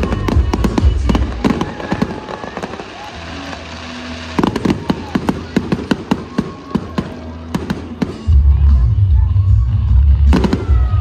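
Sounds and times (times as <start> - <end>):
fireworks bangs and crackles: 0.0 - 8.9, 9.8 - 11.0.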